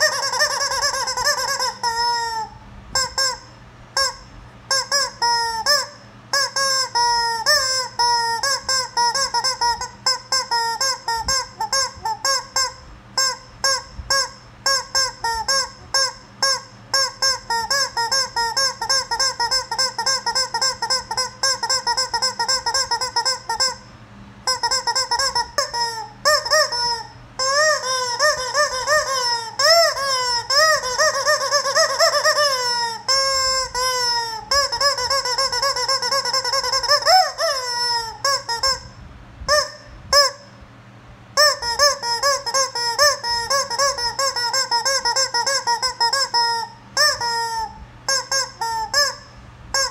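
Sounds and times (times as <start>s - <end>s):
rubber chicken toy squawking: 0.0s - 40.6s, 41.4s - 49.9s.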